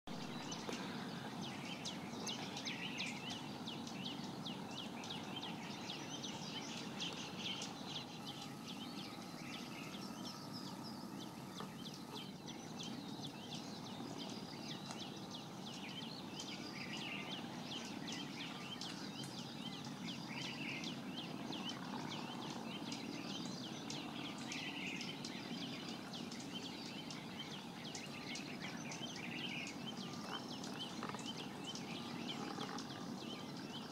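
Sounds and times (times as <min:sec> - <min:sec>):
birds chirping chorus: 0:00.1 - 0:33.9
low background rumble: 0:00.1 - 0:33.9.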